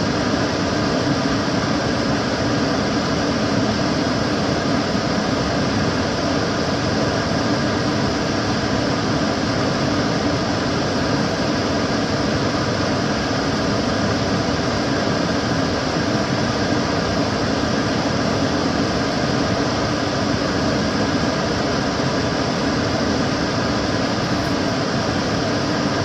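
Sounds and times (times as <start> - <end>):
extractor fan running: 0.0 - 26.0.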